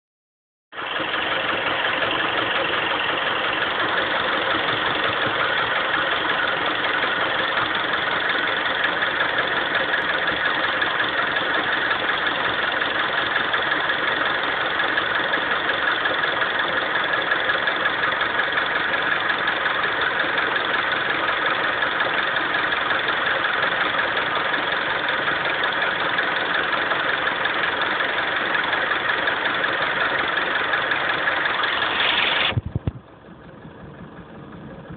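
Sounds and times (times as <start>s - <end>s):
car engine idling with knock: 0.7s - 34.9s.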